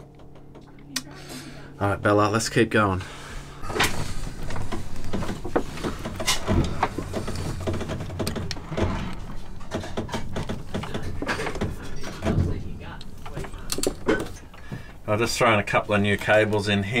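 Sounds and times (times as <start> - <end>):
terminals clicking and rattling: 0.0 - 1.1, 3.6 - 17.0
steady low hum: 0.0 - 17.0.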